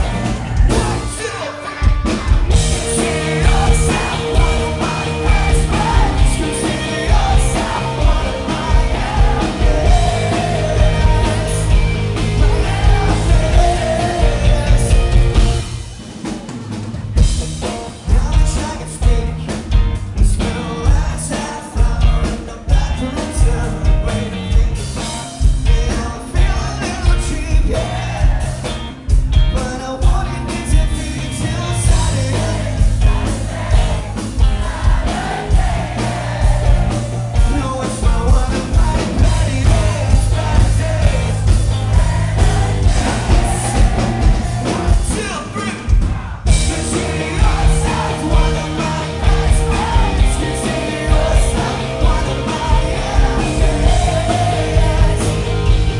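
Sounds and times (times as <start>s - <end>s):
lead vocal singing: 0.0s - 16.0s, 17.7s - 55.9s
live rock band playing: 0.0s - 55.9s.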